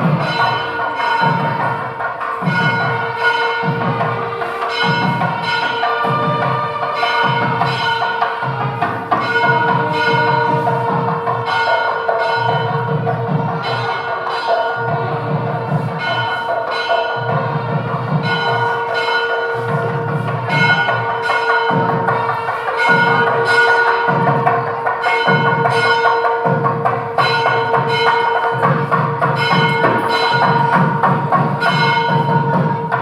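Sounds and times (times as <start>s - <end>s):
bell-like strikes: 0.0s - 33.0s
percussion beat: 0.0s - 33.0s.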